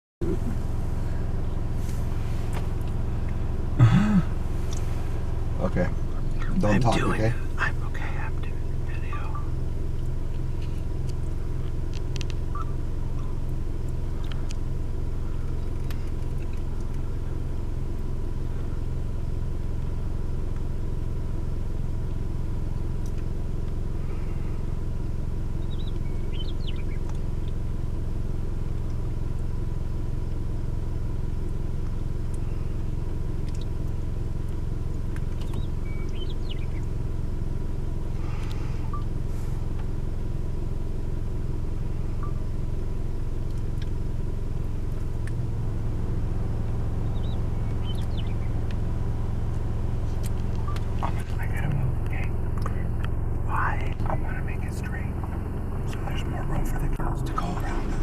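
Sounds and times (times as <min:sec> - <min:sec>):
car engine running: 0:00.2 - 0:58.0.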